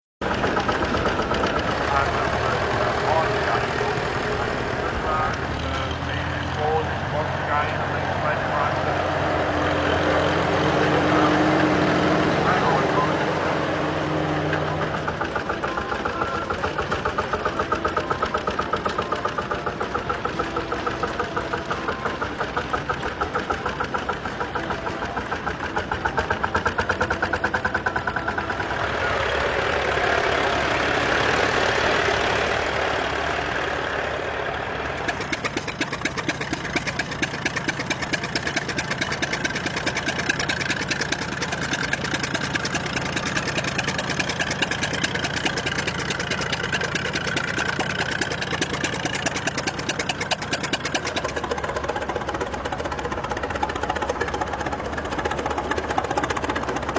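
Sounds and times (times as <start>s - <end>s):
old tractor engine running: 0.2s - 56.9s.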